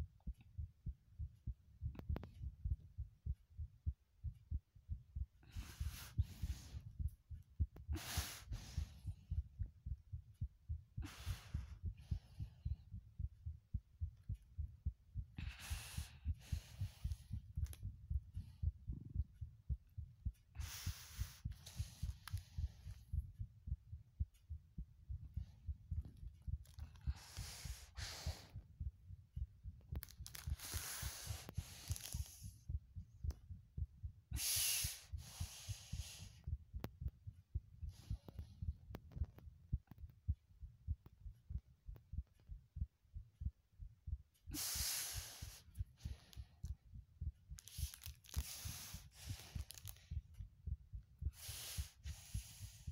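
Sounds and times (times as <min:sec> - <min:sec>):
heartbeat thumps: 0:00.0 - 0:52.9.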